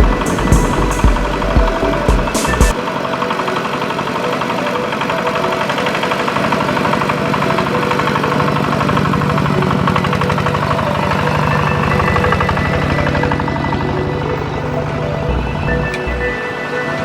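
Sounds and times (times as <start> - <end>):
diesel engine running: 0.0 - 2.8, 3.4 - 16.4.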